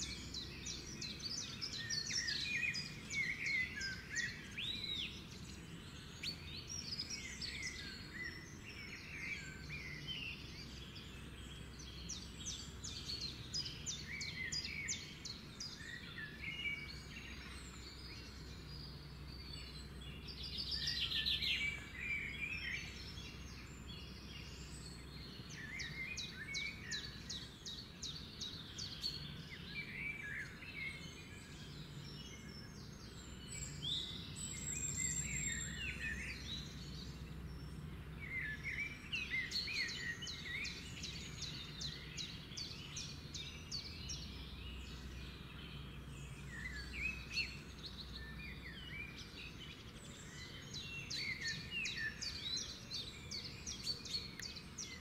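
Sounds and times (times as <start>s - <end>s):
low steady background noise: 0.0s - 55.0s
small birds chirping and trilling: 0.0s - 55.0s.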